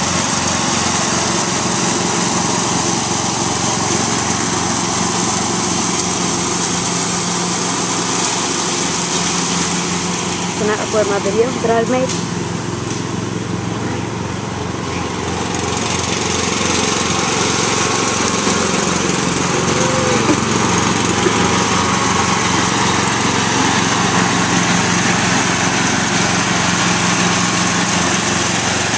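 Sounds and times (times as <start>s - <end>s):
riding lawn mower engine: 0.0s - 28.9s.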